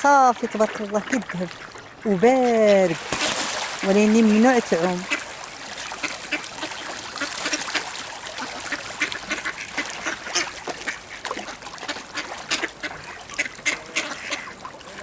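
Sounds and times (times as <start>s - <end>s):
ducks quacking: 0.1s - 15.0s.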